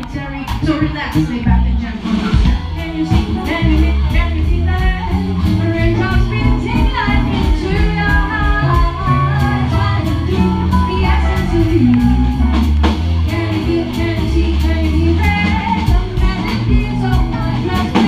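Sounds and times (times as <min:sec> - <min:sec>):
drum kit beat: 0:00.0 - 0:18.0
electric guitar: 0:00.0 - 0:18.0
low bass notes: 0:00.0 - 0:18.0
woman singing: 0:00.0 - 0:18.0.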